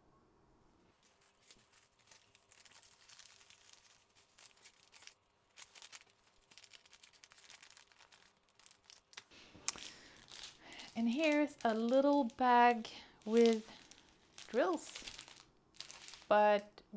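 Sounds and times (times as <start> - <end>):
plastic bags crinkling: 1.0 - 16.8.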